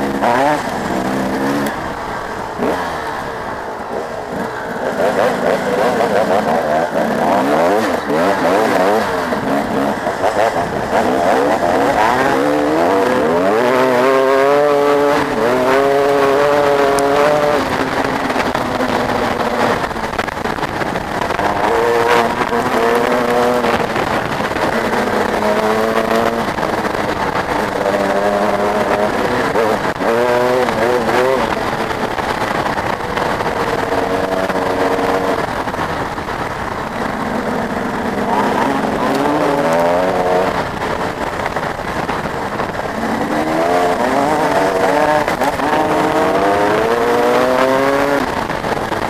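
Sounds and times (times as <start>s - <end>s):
motocross bike engines revving: 0.0s - 49.0s.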